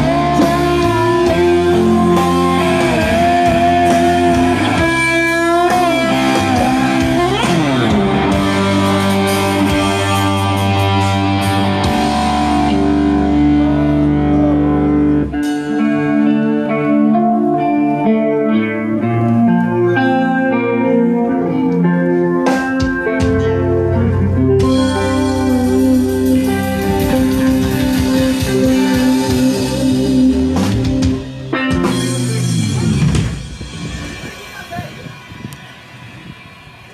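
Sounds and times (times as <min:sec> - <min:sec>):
strong bass: 0:00.0 - 0:17.6, 0:23.0 - 0:36.9
electric guitar music: 0:00.0 - 0:36.9.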